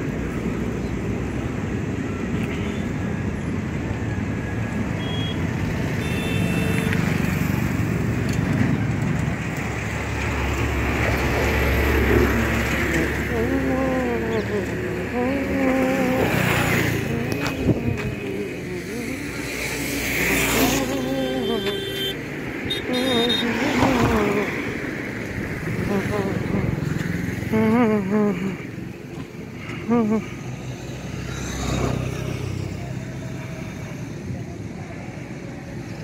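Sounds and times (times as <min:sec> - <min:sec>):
road traffic rumble: 0:00.0 - 0:36.0
wind: 0:00.0 - 0:36.0.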